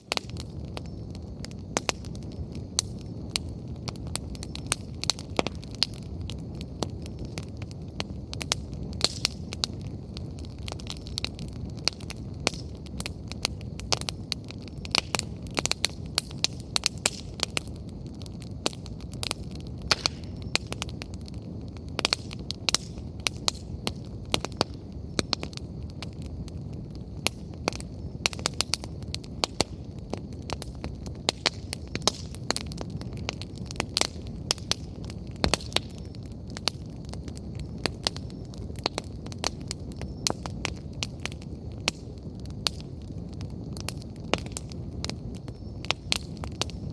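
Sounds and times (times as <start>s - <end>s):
fire crackling and popping: 0.0s - 46.9s
flames rumbling: 0.0s - 46.9s.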